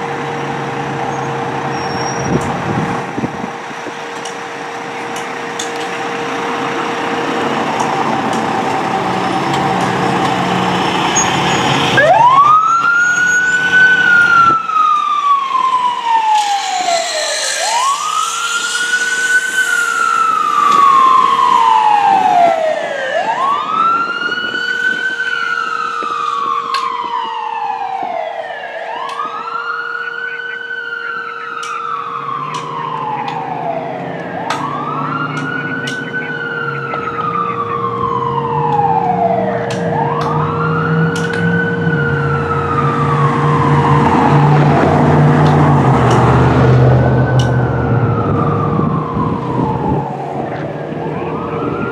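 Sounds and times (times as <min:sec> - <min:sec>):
fire engine engine running: 0:00.0 - 0:51.9
siren wailing: 0:00.0 - 0:51.9.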